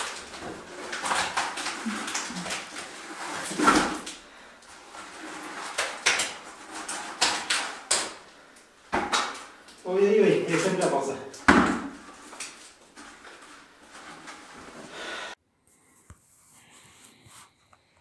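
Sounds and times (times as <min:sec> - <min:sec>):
wet mortar slapping: 0:00.0 - 0:14.6
bucket scraping and knocking: 0:00.0 - 0:15.3.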